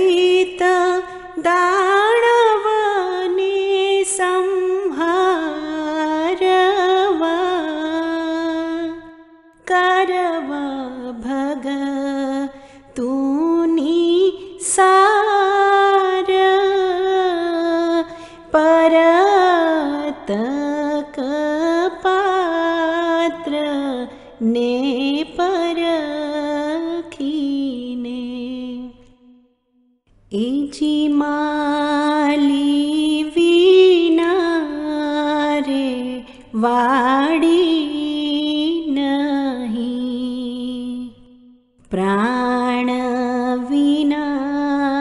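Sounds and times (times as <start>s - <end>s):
person singing devotional song: 0.0s - 29.4s, 30.3s - 45.0s.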